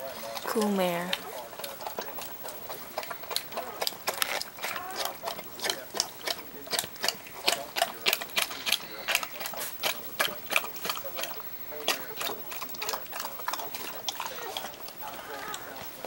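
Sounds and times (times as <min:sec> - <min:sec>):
dog licking wet smacking: 0:00.0 - 0:16.0.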